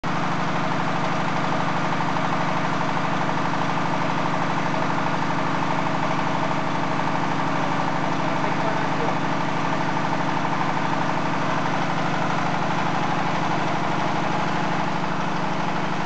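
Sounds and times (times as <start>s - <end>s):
drilling rig engine idling: 0.1s - 16.0s.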